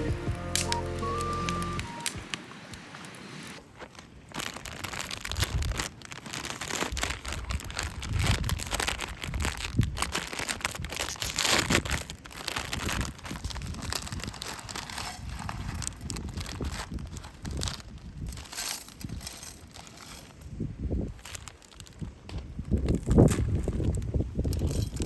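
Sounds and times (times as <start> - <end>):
crinkling and crunching handling noise: 0.0 - 25.0.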